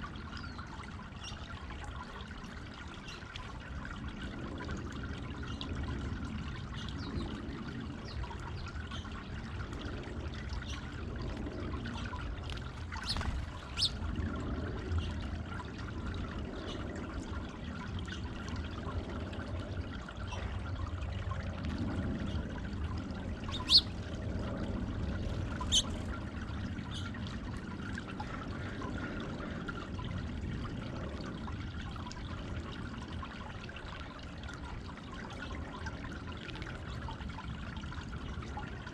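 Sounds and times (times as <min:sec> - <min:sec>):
fountain water trickling: 0:00.0 - 0:38.9.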